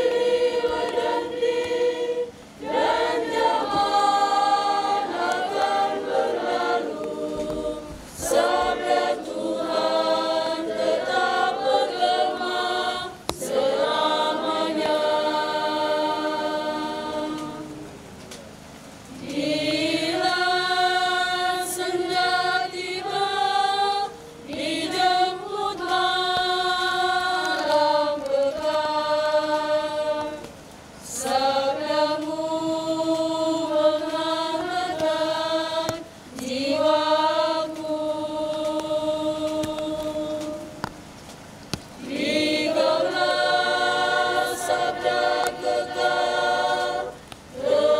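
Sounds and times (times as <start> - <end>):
women's choir singing unaccompanied: 0.0 - 47.9.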